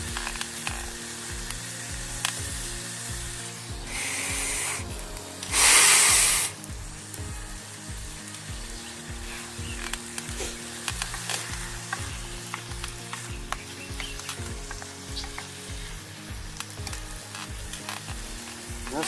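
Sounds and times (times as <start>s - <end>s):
short hissing rushes: 0.0s - 19.0s
vegetables sizzling in a pot: 0.0s - 19.0s.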